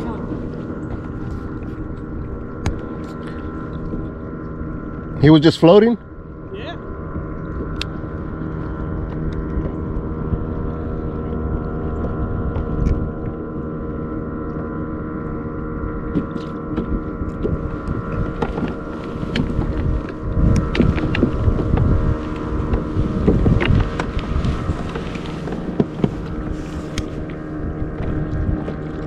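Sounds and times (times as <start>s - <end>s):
waves splashing against hull: 0.0s - 29.0s
wind buffeting microphone: 0.0s - 29.0s.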